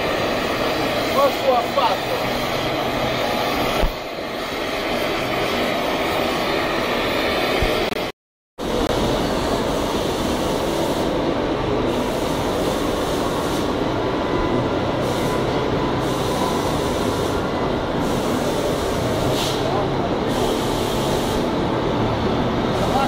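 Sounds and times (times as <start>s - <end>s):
heavy machinery rumble and hiss: 0.0s - 8.0s, 8.6s - 23.0s.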